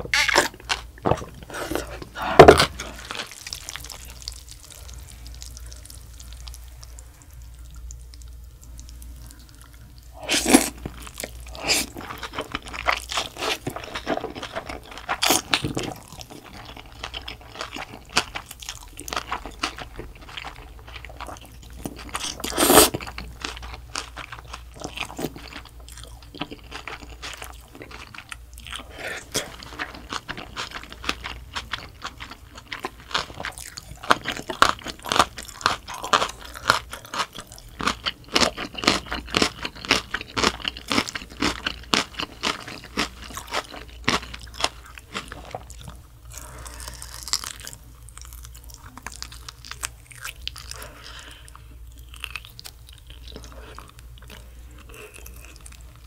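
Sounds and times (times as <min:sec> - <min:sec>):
chewing and crunching: 0:00.2 - 0:56.0.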